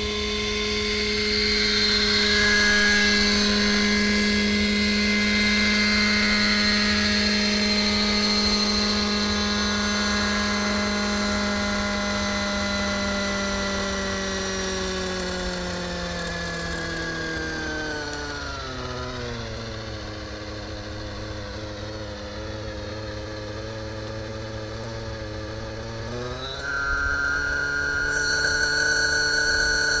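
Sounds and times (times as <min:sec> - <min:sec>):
model helicopter engine whine: 0:00.0 - 0:30.0.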